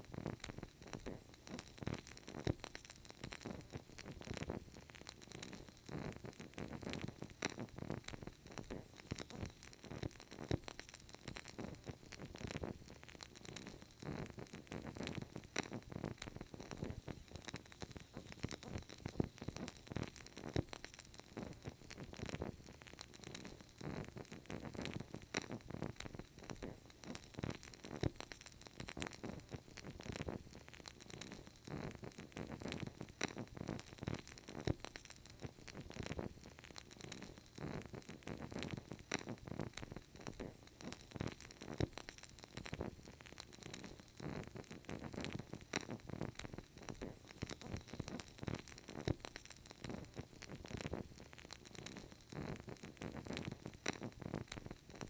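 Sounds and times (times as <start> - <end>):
candle crackling: 0.0 - 55.0
soft rustle of flame: 0.0 - 55.0.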